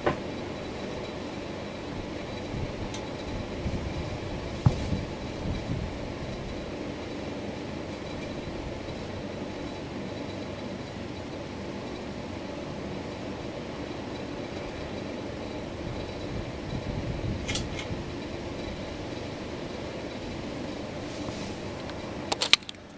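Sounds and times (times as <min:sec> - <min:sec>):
ceiling fan whooshing hum: 0:00.0 - 0:22.9.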